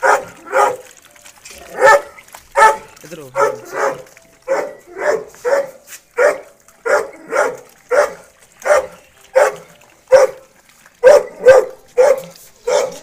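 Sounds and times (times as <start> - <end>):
dog barking: 0.0 - 0.9, 1.8 - 10.4, 11.0 - 13.0.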